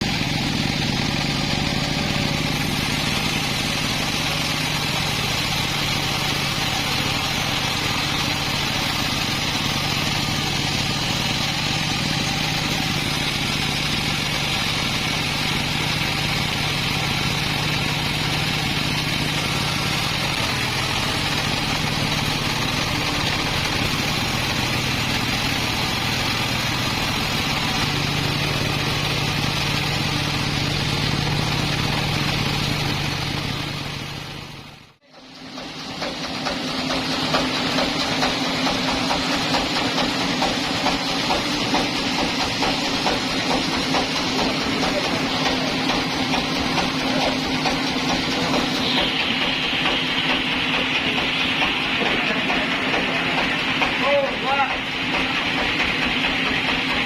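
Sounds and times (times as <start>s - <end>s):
sawmill engine humming: 0.0s - 57.0s.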